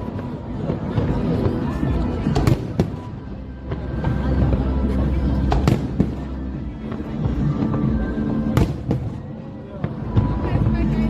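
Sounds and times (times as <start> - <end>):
fireworks bangs: 0.0 - 4.8, 5.4 - 10.7
music over loudspeakers: 0.0 - 11.0.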